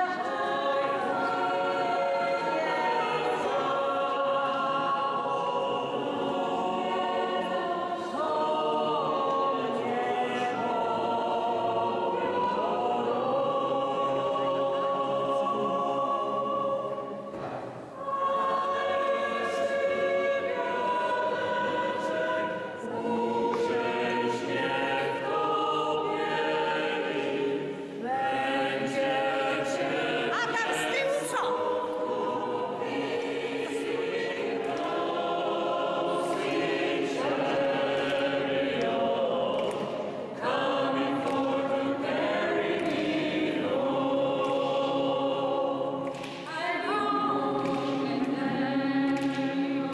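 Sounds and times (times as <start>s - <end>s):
choir singing in a church: 0.0s - 49.9s.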